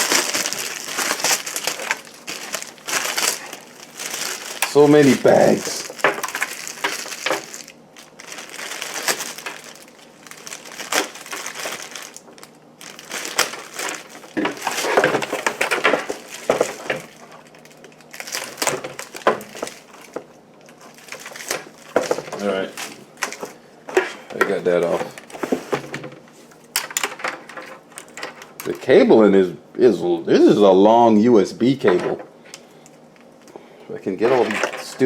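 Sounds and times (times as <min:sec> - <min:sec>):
plastic bags crinkling: 0:00.0 - 0:25.9, 0:26.6 - 0:28.8, 0:34.1 - 0:35.0.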